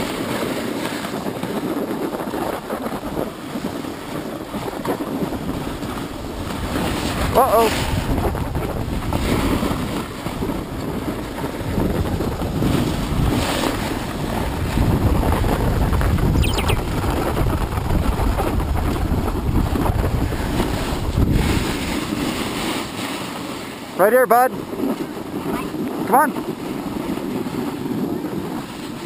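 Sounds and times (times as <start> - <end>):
snowboard scraping over snow: 0.0 - 16.3, 17.1 - 23.9, 26.7 - 29.0
wind on microphone: 0.0 - 29.0.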